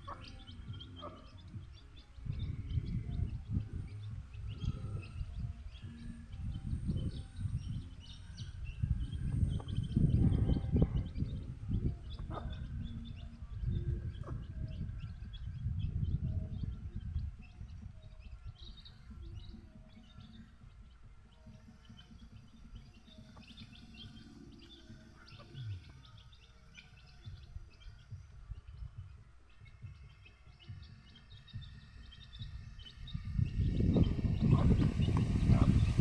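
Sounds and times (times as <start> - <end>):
low rumble: 0.0 - 26.5, 27.2 - 36.0
chickens chirping and peeping: 0.0 - 36.0.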